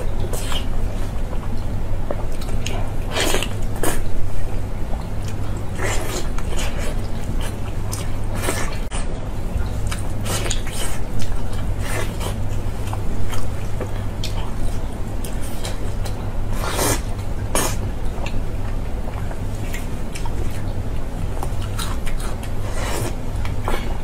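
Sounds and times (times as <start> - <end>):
sticky chewing and smacking: 0.0 - 24.0.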